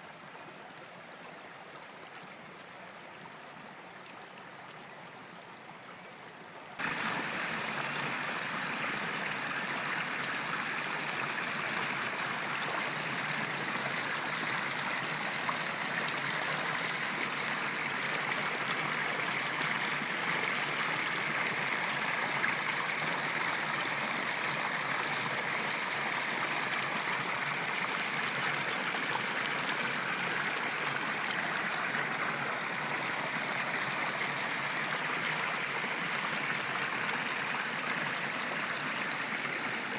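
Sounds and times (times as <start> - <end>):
stream water rushing: 6.8 - 39.9.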